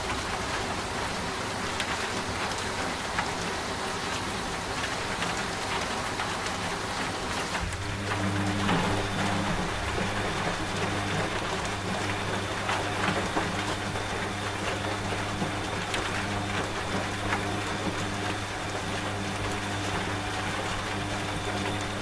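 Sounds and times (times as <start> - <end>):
steady rain: 0.0 - 22.0
washing machine humming: 0.0 - 22.0.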